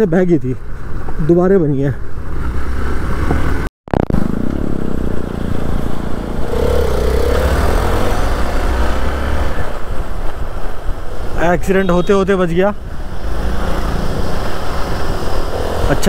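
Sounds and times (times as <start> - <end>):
motorcycle engine rumbling: 2.2 - 16.0.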